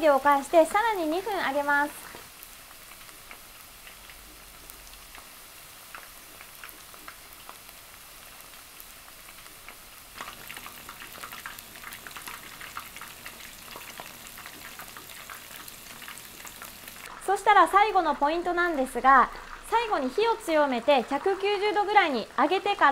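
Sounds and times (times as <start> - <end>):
chicken deep-frying in oil: 0.0 - 22.9.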